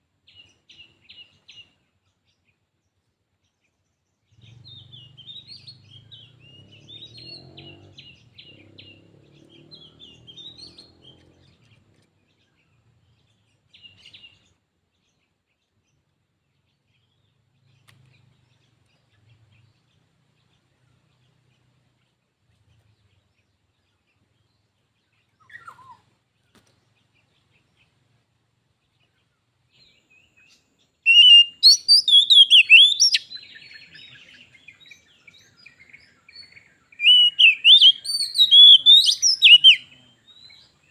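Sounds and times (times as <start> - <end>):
bird singing chirping phrases: 0.2 - 21.9, 22.5 - 26.1, 26.7 - 40.9.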